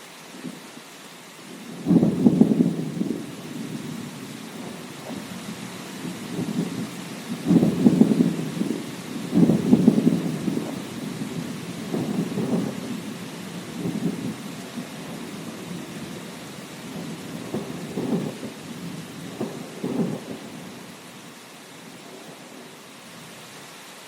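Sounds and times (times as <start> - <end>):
steady rain: 0.0 - 24.0
thunder rumbling: 1.6 - 20.9.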